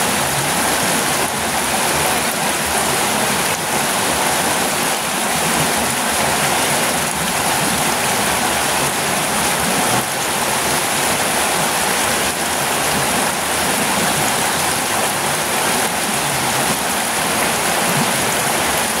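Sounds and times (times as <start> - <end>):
small waterfall rushing and splashing: 0.0 - 19.0.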